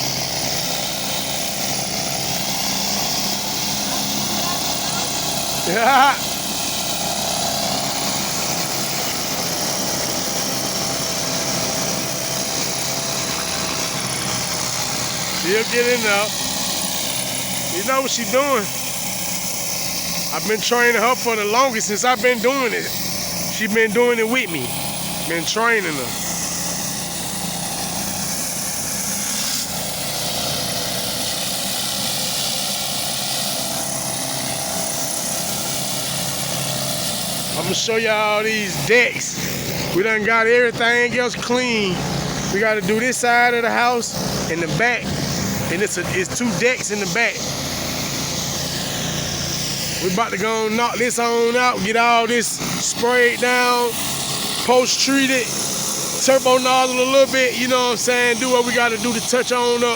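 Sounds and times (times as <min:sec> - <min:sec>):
high-pressure water spray hissing: 0:00.0 - 0:40.0, 0:41.7 - 0:59.9
pressure washer engine drone: 0:00.0 - 0:59.9.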